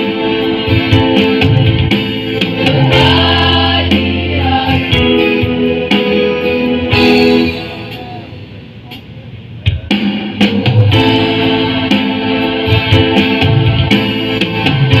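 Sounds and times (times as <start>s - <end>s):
choir singing in harmony: 0.0s - 7.9s, 10.9s - 15.0s
instrumental accompaniment: 0.0s - 15.0s.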